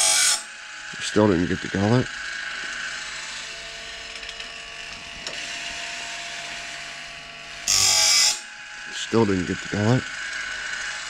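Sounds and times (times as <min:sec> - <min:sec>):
grinding wheel grinding metal: 0:00.0 - 0:11.0
sharpener motor humming: 0:00.0 - 0:11.0.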